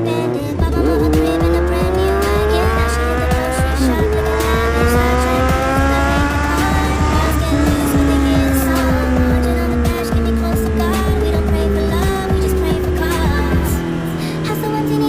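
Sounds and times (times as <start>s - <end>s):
music with steady bass: 0.0s - 14.2s
motorcycle engine accelerating: 0.0s - 15.0s.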